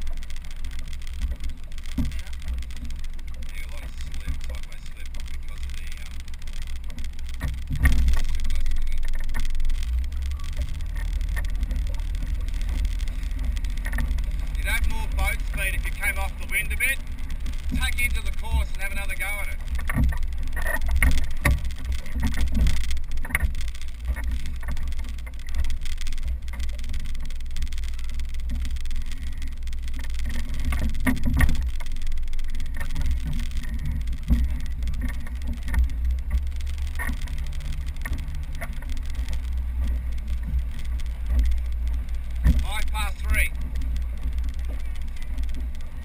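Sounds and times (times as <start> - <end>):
water slapping against boat hull: 0.0 - 46.0.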